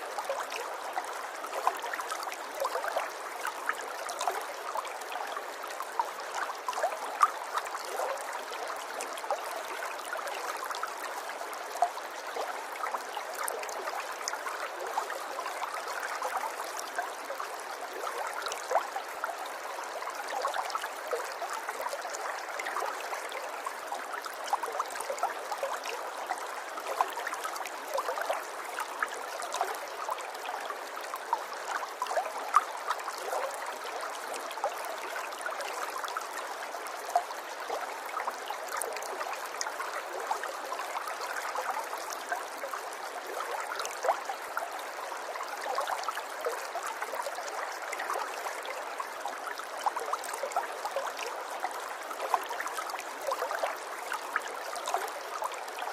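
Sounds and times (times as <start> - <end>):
river water flowing over stones: 0.0 - 55.9.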